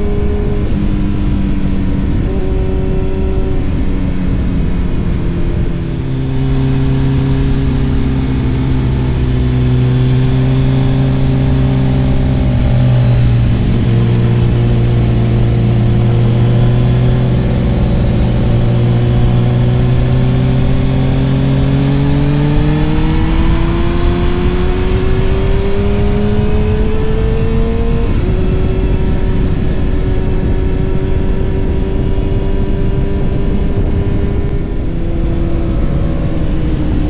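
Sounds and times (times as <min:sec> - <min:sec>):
motorcycle engine accelerating: 0:00.0 - 0:37.0
wind and road noise: 0:00.0 - 0:37.0.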